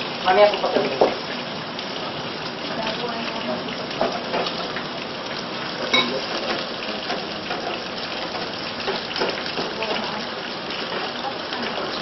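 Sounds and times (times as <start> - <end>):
chicken sizzling in pan: 0.0 - 12.0.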